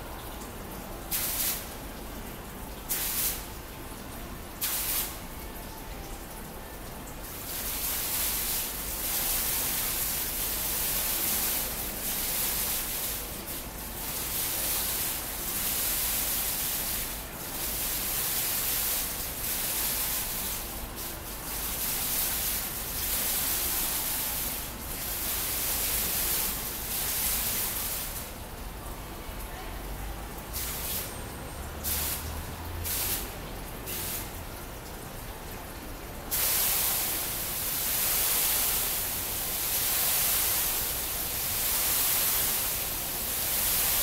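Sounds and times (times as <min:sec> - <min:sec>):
fountain water splashing: 0:00.0 - 0:44.0.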